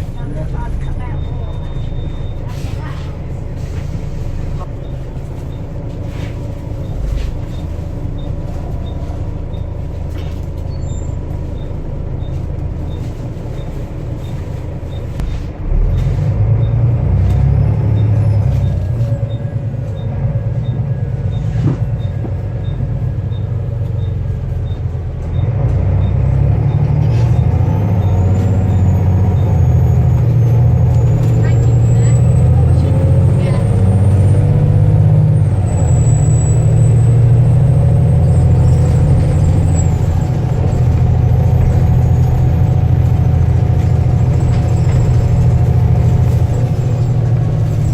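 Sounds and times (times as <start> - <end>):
diesel bus engine running: 0.0 - 47.9.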